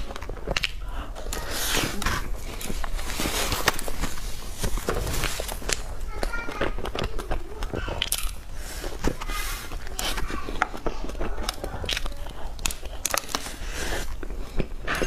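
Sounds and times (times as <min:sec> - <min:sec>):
chewing cream puffs: 0:00.0 - 0:15.0.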